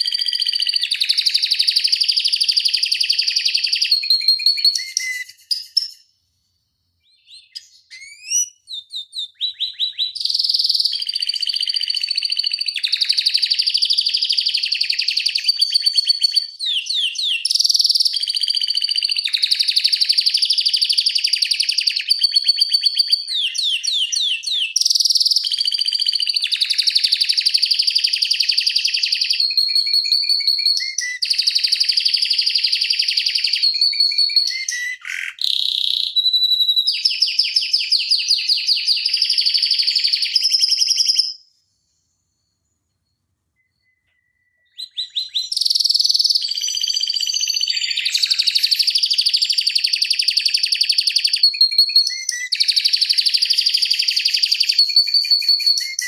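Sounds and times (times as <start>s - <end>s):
canary singing trills: 0.0s - 6.1s, 7.0s - 41.5s, 43.6s - 56.0s.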